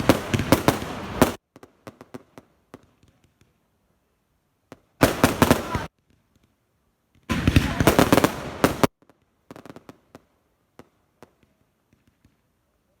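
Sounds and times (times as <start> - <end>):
fireworks cracking: 0.0 - 3.6, 4.7 - 12.5.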